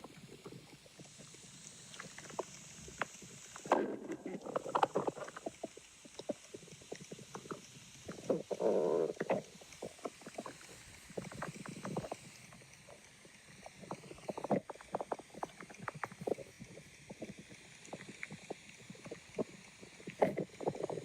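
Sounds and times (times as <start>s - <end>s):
small clicks and crackles: 0.0s - 21.0s
stomach growling: 0.0s - 21.0s.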